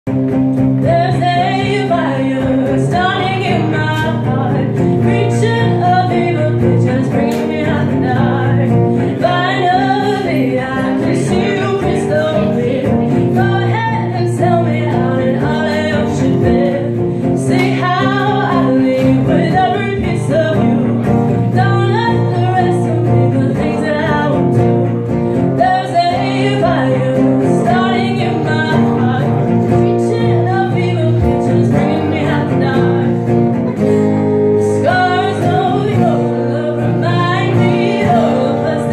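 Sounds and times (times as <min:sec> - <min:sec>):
guitar accompaniment: 0:00.0 - 0:38.9
person singing: 0:00.8 - 0:38.9.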